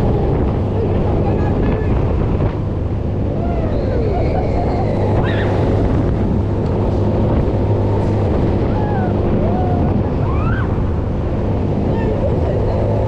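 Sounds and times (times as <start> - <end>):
thrill ride rumble: 0.0 - 13.0
wind buffeting microphone: 0.0 - 13.0.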